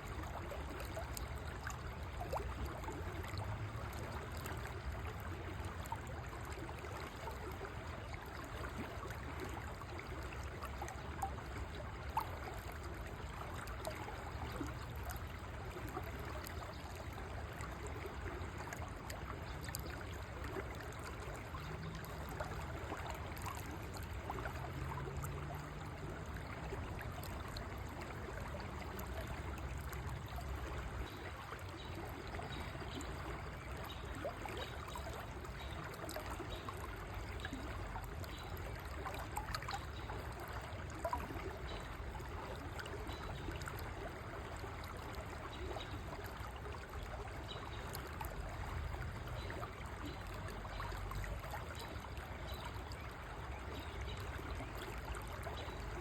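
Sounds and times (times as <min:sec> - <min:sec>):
river flowing: 0:00.0 - 0:56.0
water splashes: 0:00.0 - 0:56.0.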